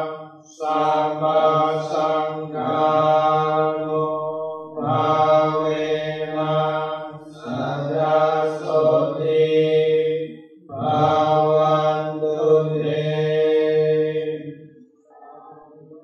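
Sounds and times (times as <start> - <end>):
monk chanting into a microphone: 0.0 - 14.6.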